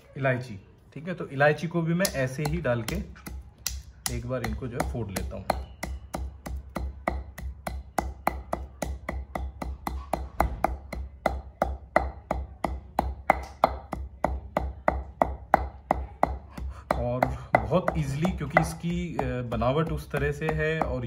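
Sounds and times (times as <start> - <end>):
pestle pounding in a mortar: 2.0 - 21.0.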